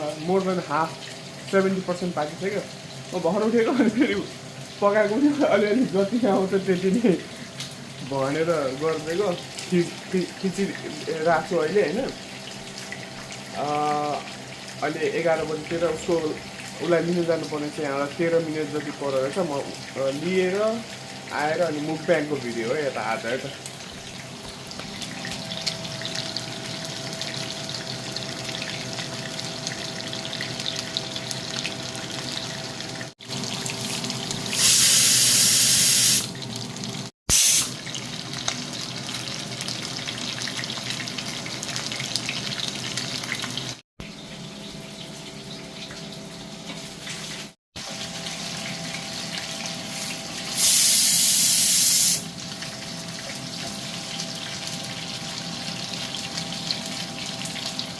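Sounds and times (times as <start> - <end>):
steady kitchen hum: 0.0 - 57.9
tap water running into sink: 0.0 - 57.9
water gushing: 0.0 - 57.9.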